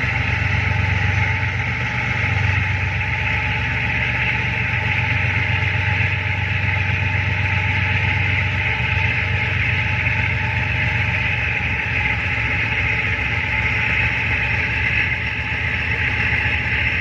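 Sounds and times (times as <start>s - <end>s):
diesel engine low drone: 0.0s - 17.0s.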